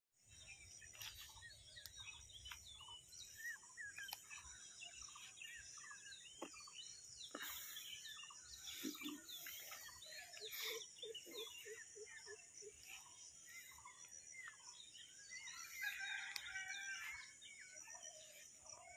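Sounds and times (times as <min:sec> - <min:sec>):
low repeated bird call notes: 0:00.2 - 0:18.9
small birds chirping: 0:00.2 - 0:18.9.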